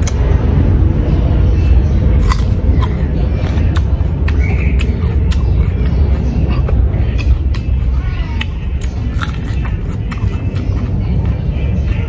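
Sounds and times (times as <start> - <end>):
cucumber crunching: 0.0 - 0.4, 1.6 - 12.0
low steady rumble: 0.0 - 12.0.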